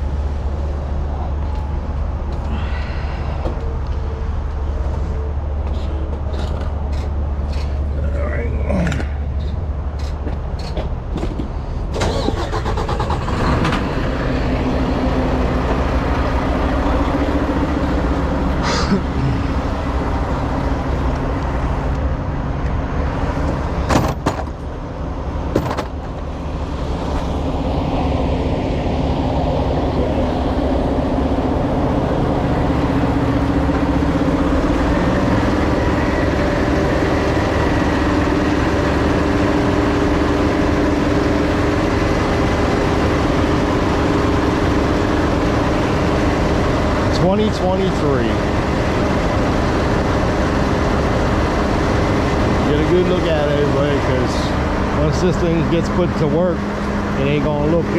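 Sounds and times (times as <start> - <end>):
diesel truck engine idling: 0.0 - 23.9, 24.5 - 57.9.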